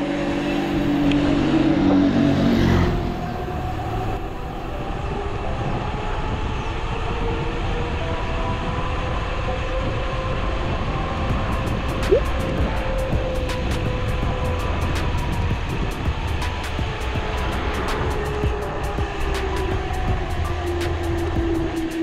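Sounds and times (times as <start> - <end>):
rushing wind: 0.0 - 22.0.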